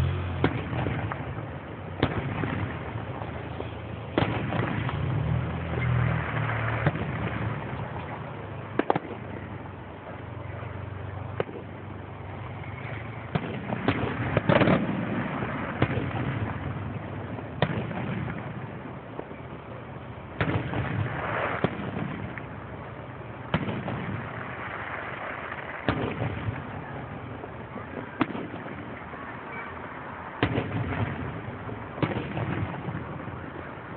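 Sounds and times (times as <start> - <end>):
fireworks bangs: 0.0 - 33.9
fireworks crackling: 0.0 - 33.9.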